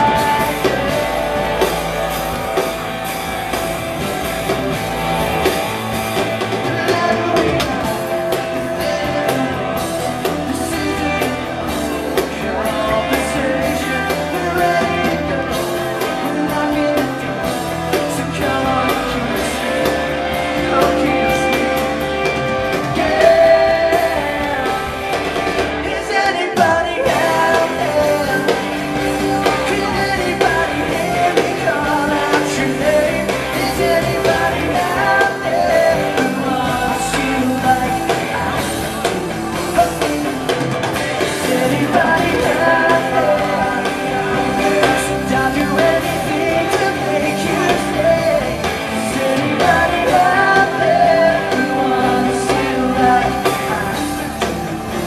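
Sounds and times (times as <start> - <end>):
lead singer singing: 0.0 - 55.0
live rock band playing: 0.0 - 55.0.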